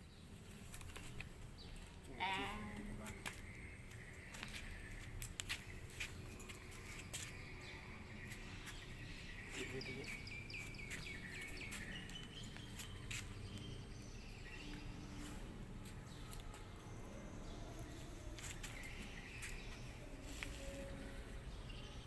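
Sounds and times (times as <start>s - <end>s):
high chirping calls: 1.6s - 22.0s.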